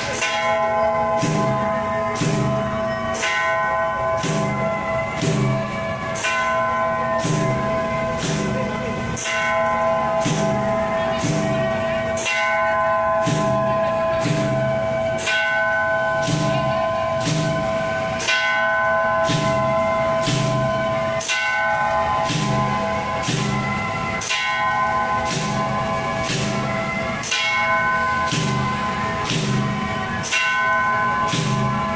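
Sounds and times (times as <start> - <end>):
low repeating beat: 0.0 - 31.9
ringing metal percussion: 0.0 - 31.9.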